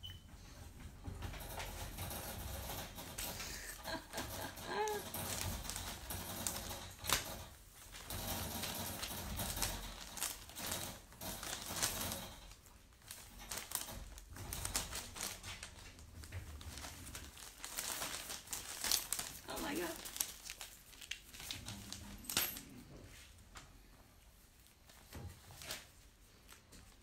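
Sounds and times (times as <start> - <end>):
puppies clicking and rustling: 0.4 - 22.9.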